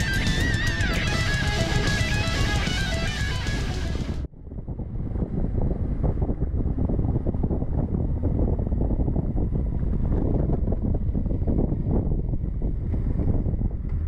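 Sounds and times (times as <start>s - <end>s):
low motorcycle rumble: 0.0s - 14.0s
wind buffeting microphone: 0.0s - 14.0s.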